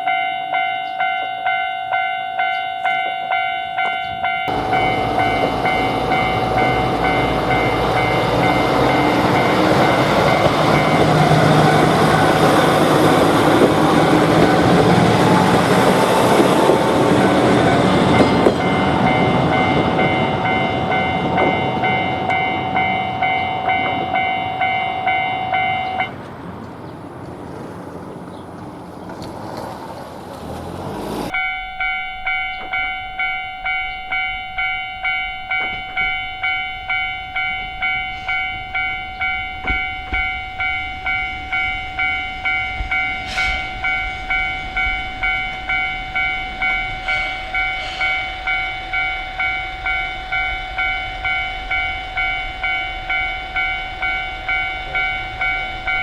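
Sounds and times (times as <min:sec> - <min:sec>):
railroad crossing bell ringing: 0:00.0 - 0:26.3, 0:31.3 - 0:56.0
passing train rumble: 0:00.0 - 0:56.0.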